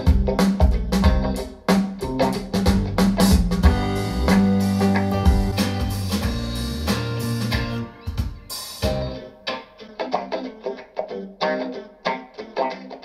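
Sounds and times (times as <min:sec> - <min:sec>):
guitar music with drums: 0:00.0 - 0:13.0
plucked guitar notes: 0:00.0 - 0:13.0.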